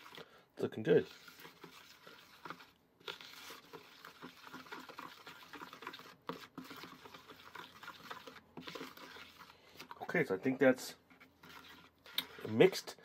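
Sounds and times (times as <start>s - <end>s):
wooden spoon scraping bowl: 0.0s - 13.0s.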